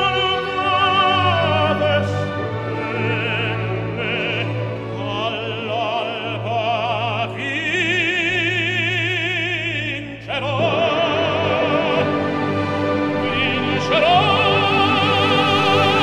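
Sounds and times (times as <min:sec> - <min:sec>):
operatic singing: 0:00.0 - 0:16.0
orchestral strings: 0:00.0 - 0:16.0.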